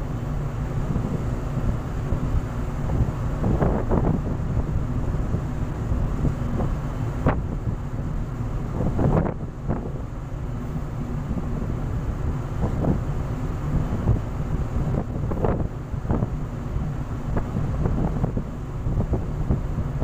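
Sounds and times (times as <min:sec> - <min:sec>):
rushing sea water: 0:00.0 - 0:20.0
ship engine rumble: 0:00.0 - 0:20.0
wind buffeting microphone: 0:00.0 - 0:20.0.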